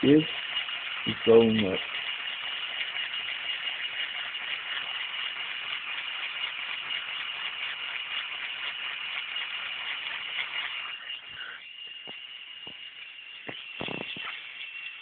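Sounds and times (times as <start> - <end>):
toy electric motor whining: 0.0 - 15.0.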